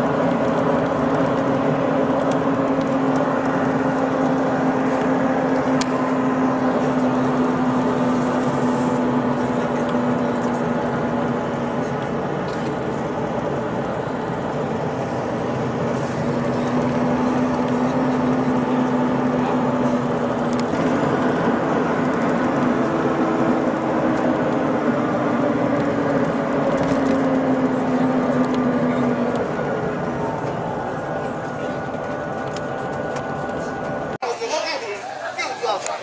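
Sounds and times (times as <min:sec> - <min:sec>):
vehicle engine drone: 0:00.0 - 0:34.3
road noise: 0:00.0 - 0:36.0.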